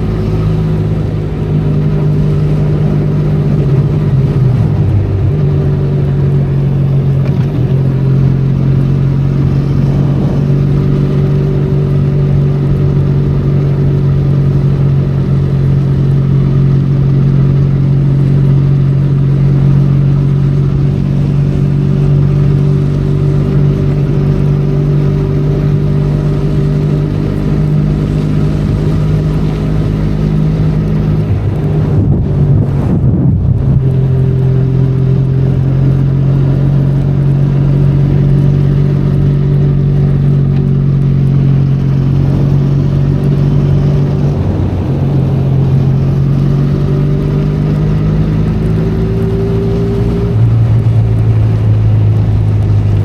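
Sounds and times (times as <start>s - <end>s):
motorcycle engine cruising: 0.0s - 53.0s
rain: 0.0s - 53.0s.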